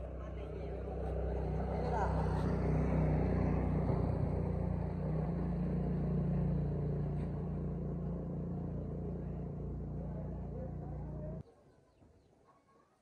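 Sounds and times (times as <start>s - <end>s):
engine droning: 0.0s - 11.4s.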